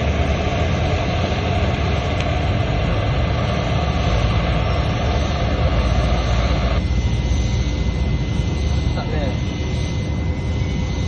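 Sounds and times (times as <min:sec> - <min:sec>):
low rumble: 0:00.0 - 0:11.0
welding arc hissing: 0:00.0 - 0:11.0.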